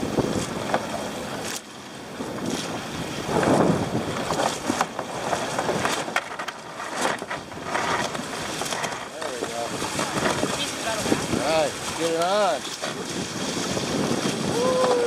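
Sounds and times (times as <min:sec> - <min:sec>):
water rushing along a hull: 0:00.0 - 0:15.0.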